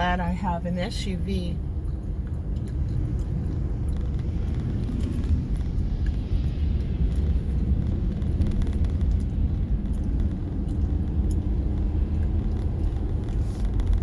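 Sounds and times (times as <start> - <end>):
suv driving rumble: 0.0 - 14.0.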